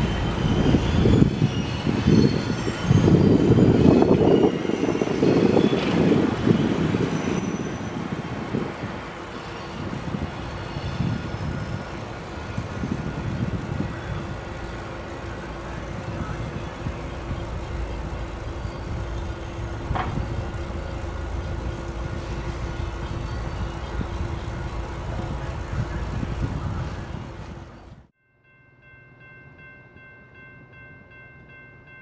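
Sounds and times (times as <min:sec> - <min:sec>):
freight train rumbling: 0:00.0 - 0:28.2.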